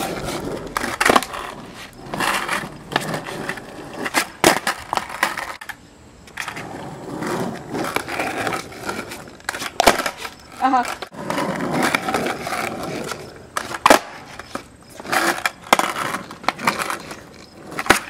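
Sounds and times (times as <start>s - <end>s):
skateboard clacks: 0.0s - 18.0s
skateboard wheels rolling on asphalt: 0.0s - 18.0s.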